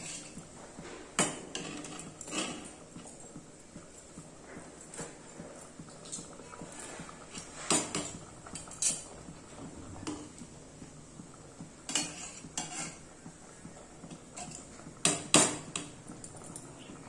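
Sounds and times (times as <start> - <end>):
kitchenware clinking: 0.0 - 10.5, 11.2 - 13.1, 13.8 - 17.0
curry bubbling at a boil: 0.0 - 17.0.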